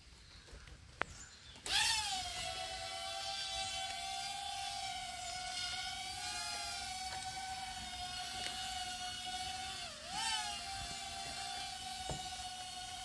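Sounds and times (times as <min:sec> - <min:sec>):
quadcopter motors whining: 0:01.6 - 0:13.0.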